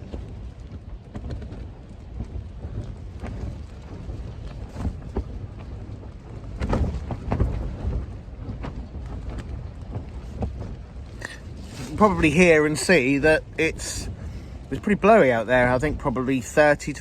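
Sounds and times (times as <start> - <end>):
gusting wind rumble: 0.0 - 17.0
tent flysheet flapping: 0.0 - 17.0.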